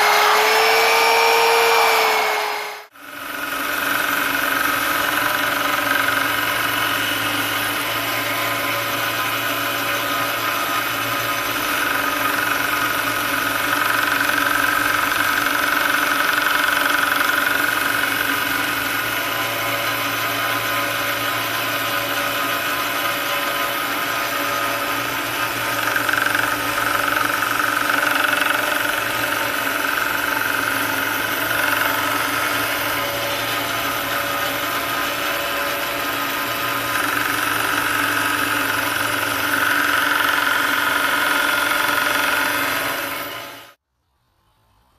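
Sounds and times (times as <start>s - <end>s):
belt sander running: 0.0s - 43.8s.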